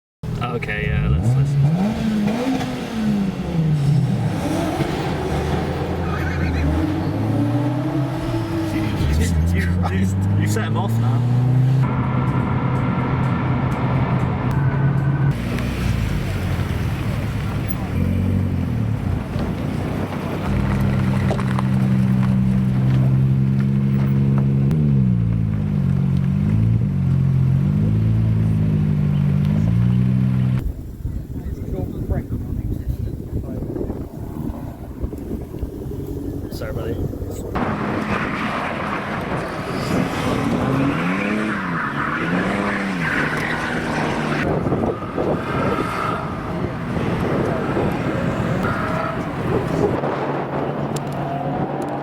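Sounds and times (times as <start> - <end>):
car engine revving: 0.2 - 30.9, 31.6 - 52.0.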